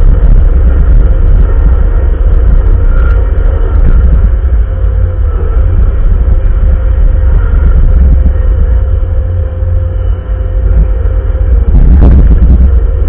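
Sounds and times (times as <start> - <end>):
diesel engine rumbling: 0.0 - 13.0
steady engine whine: 0.0 - 13.0.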